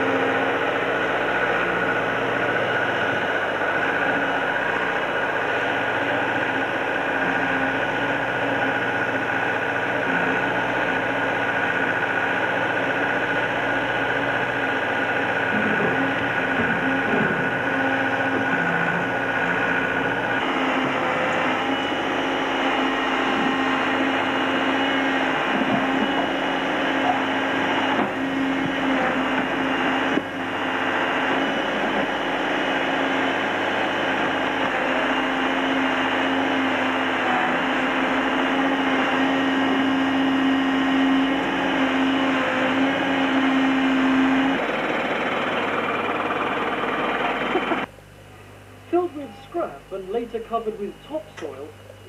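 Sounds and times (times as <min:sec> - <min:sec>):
backhoe engine running: 0:00.0 - 0:48.0
whining motor: 0:00.0 - 0:48.0.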